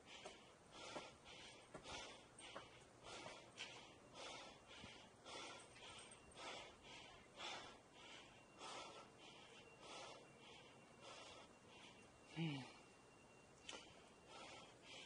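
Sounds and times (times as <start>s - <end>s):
person breathing heavily: 0.0s - 12.9s, 13.7s - 15.0s.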